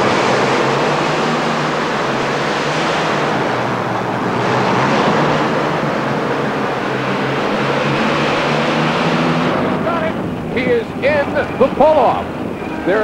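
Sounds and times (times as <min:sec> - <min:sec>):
aircraft engines roaring: 0:00.0 - 0:13.0.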